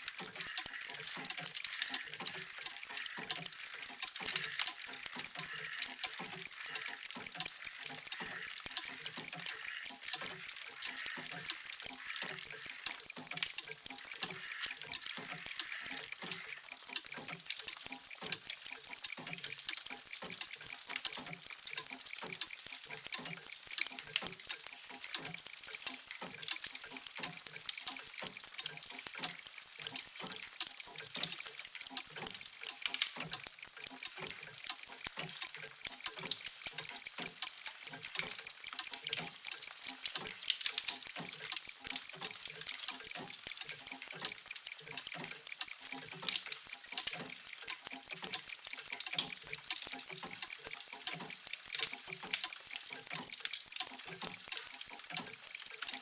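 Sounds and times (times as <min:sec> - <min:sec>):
clocks ticking: 0:00.0 - 0:56.0.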